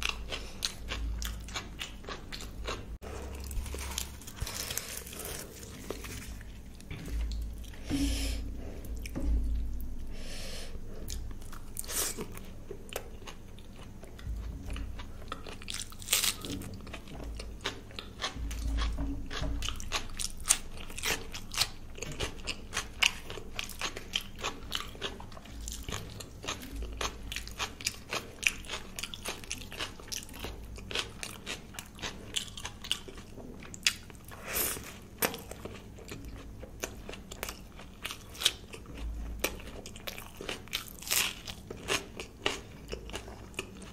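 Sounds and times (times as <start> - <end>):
person chewing crunchy food: 0.0 - 43.9.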